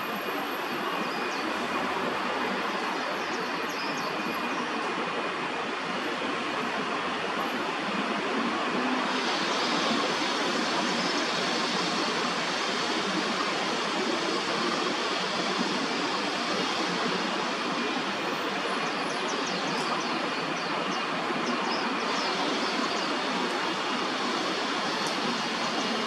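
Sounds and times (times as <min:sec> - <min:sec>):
city park background din: 0:00.0 - 0:26.0.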